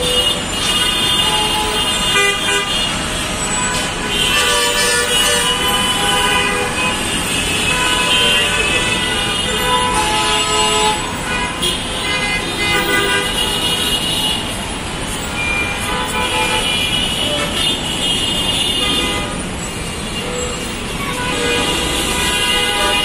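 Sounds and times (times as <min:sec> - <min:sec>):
bus and car horns honking: 0:00.0 - 0:23.0
jammed road traffic: 0:00.0 - 0:23.0.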